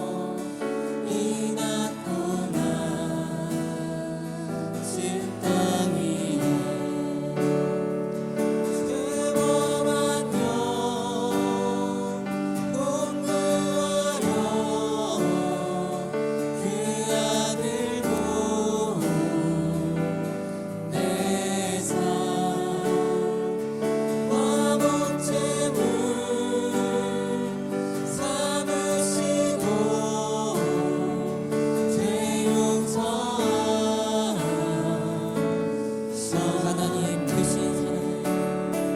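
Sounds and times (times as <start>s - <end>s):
acoustic guitar: 0.0s - 38.9s
group singing a hymn: 0.0s - 38.9s.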